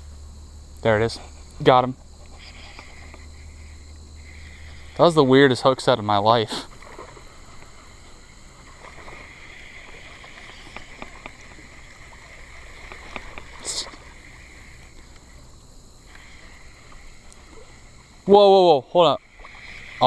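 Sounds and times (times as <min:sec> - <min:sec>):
light water sounds: 0:00.0 - 0:20.0.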